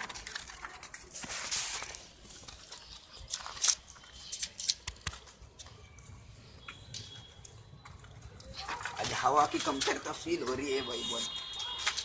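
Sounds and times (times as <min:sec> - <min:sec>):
paper rustling and clicking: 0:00.0 - 0:06.2, 0:06.9 - 0:10.9, 0:11.5 - 0:12.0.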